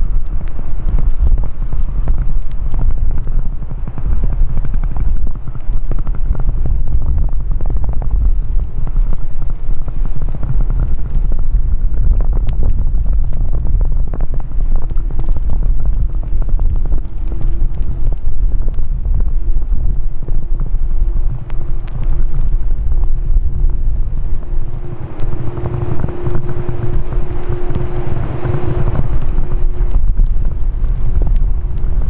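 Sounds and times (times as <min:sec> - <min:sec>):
faint steady hum: 0:00.0 - 0:32.0
wind buffeting microphone: 0:00.0 - 0:32.0.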